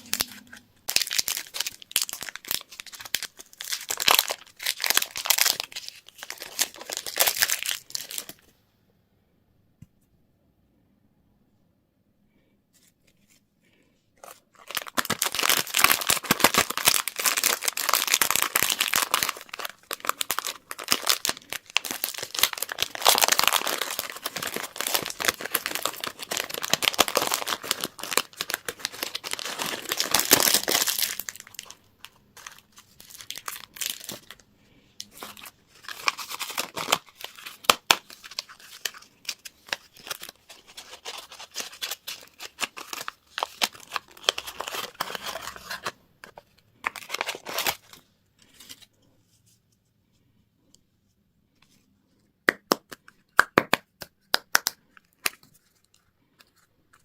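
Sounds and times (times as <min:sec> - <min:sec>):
candy wrappers crinkling: 0:00.0 - 0:08.5, 0:14.2 - 0:49.0, 0:54.3 - 0:57.0.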